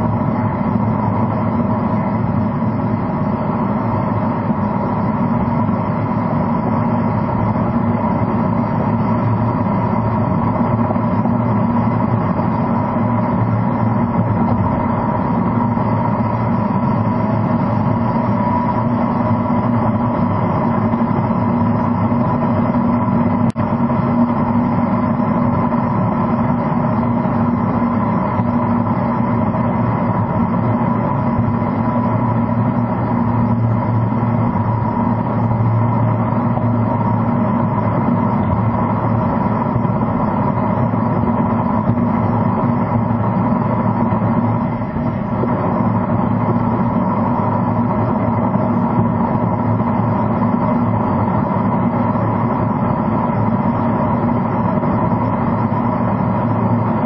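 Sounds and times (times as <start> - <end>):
car road and engine drone: 0.0 - 57.0.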